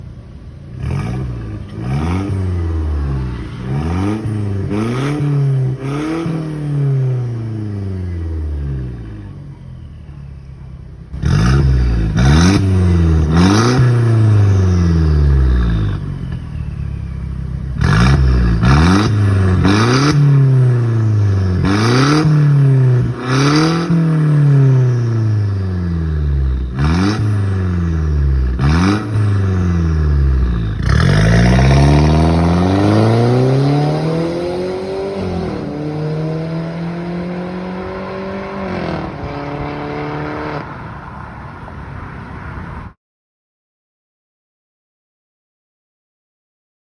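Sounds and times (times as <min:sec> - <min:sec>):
car engine revving: 0:00.0 - 0:09.4, 0:10.5 - 0:41.3.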